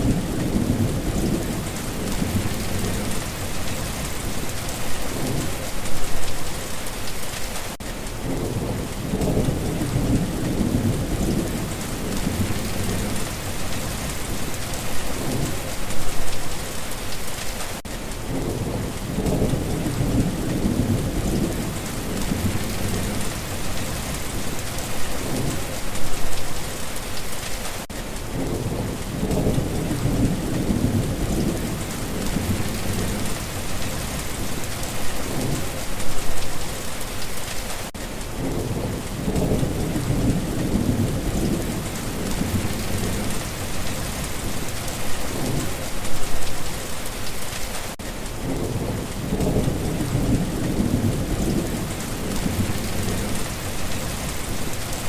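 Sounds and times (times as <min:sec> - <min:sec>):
rolling thunder: 0:00.0 - 0:06.1, 0:08.2 - 0:16.2, 0:18.3 - 0:26.0, 0:28.3 - 0:36.1, 0:38.4 - 0:46.4, 0:48.4 - 0:55.0
steady rain: 0:00.0 - 0:55.0.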